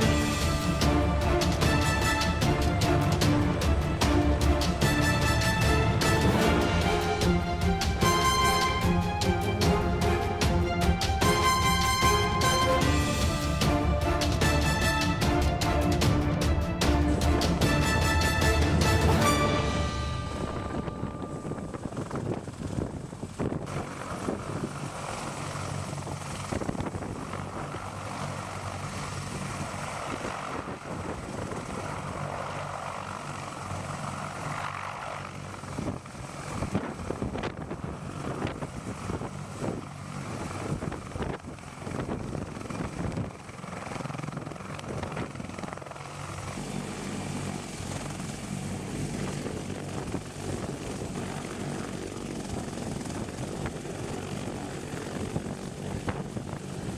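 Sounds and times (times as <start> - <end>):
helicopter engines and rotor drone: 0.0 - 56.9.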